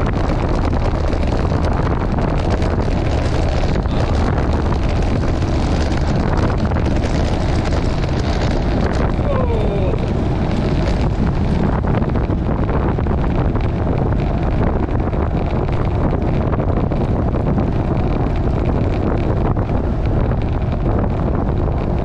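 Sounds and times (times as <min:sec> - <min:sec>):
bike knocking on rough pavement: 0:00.0 - 0:09.3, 0:10.0 - 0:22.0
wind rush over microphone: 0:00.0 - 0:22.0.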